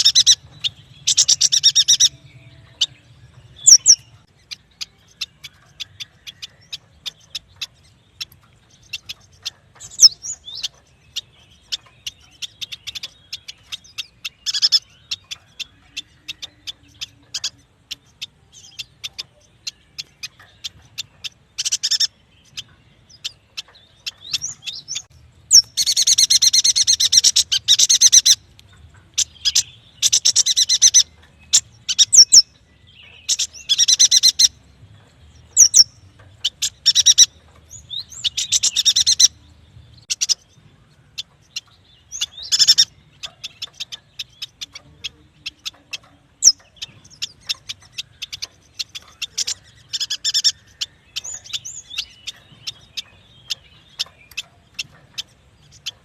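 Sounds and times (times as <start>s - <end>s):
bird chattering trills: 0.0s - 56.0s.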